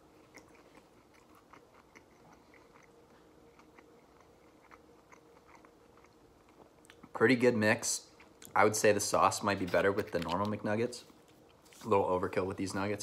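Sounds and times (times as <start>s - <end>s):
chewing crunchy food: 0.0s - 8.8s, 9.6s - 11.9s.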